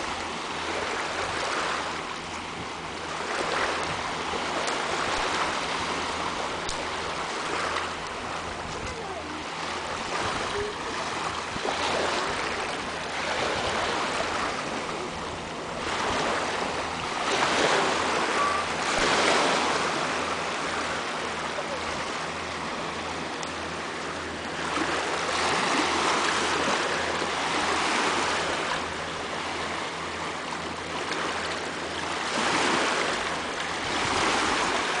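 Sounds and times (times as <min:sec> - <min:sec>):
waves lapping on stony shore: 0:00.0 - 0:35.0.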